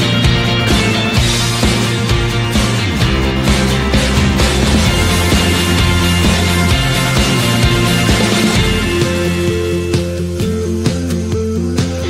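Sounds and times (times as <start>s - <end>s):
rock backing track with beat: 0.0s - 12.0s.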